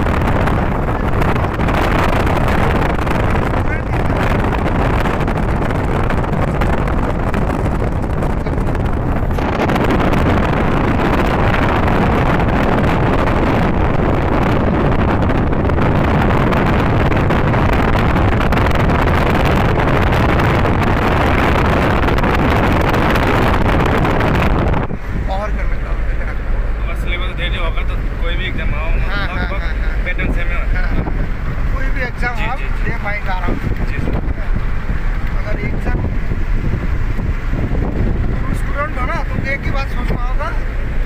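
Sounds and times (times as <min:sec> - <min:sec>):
car road noise: 0:00.0 - 0:41.0
wind buffeting microphone: 0:00.0 - 0:41.0.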